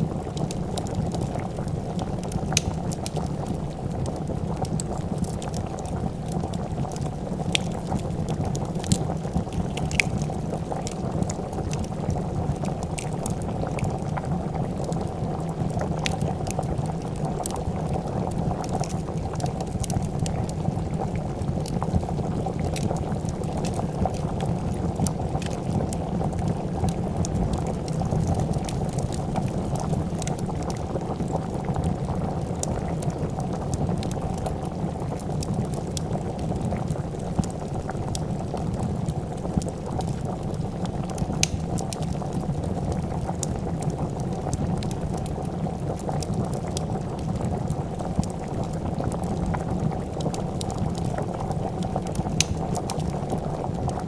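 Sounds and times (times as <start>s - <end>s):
soup boiling: 0.0s - 54.0s
wood fire crackling: 0.0s - 54.0s.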